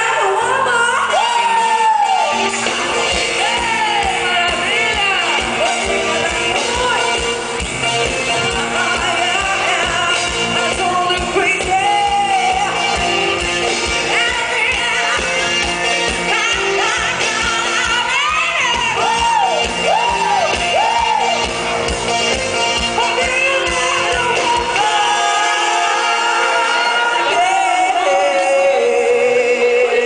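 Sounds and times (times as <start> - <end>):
women singing into microphones: 0.0 - 7.2, 8.4 - 21.4, 23.0 - 30.0
live band music: 0.0 - 30.0.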